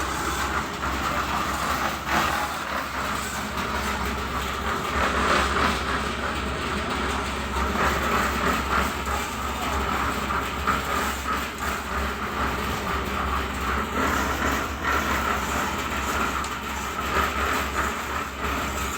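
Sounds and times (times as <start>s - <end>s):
rushing clattering machine noise: 0.0s - 18.9s.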